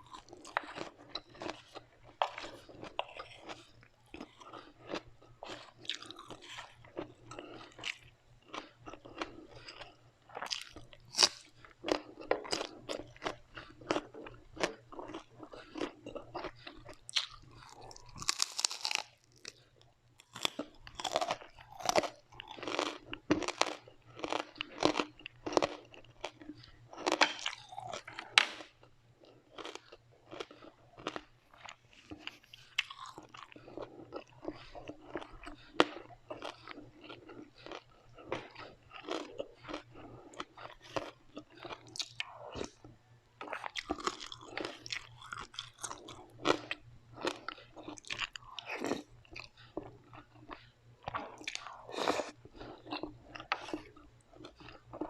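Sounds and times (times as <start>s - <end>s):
crunchy food being chewed: 0.0s - 55.0s.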